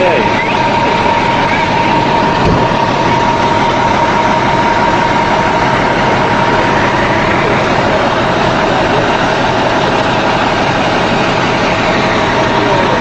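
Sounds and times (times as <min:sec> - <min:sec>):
engine running with high whine: 0:00.0 - 0:13.0.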